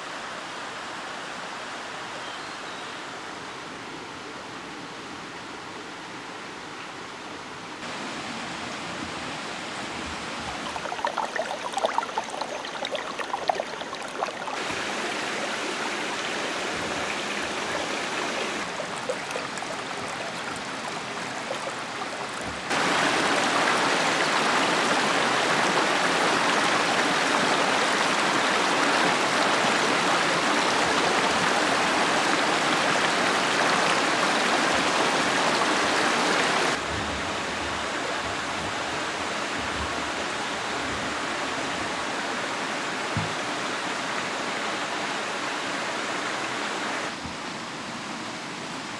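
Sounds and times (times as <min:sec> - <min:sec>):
stream running over rocks: 0:07.8 - 0:48.9.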